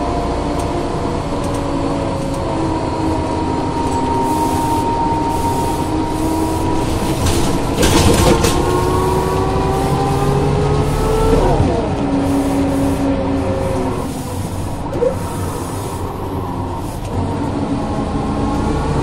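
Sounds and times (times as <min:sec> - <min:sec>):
bus gearbox whine: 0:00.0 - 0:17.6
diesel engine: 0:00.0 - 0:19.0.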